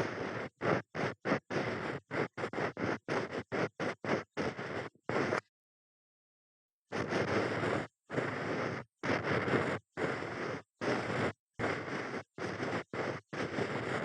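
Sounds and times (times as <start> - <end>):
ear-cleaning tool rubbing: 0.0 - 5.4, 6.9 - 14.0.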